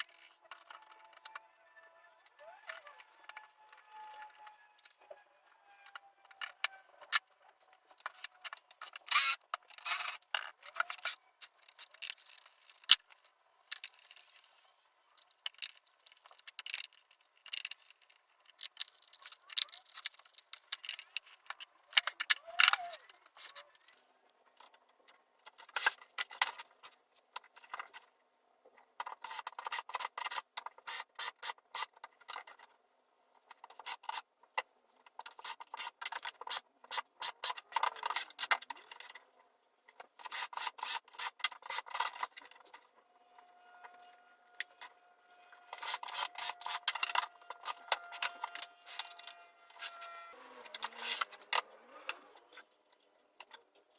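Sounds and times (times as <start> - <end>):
metal parts clicking and clinking: 0.0 - 28.1, 33.4 - 53.8.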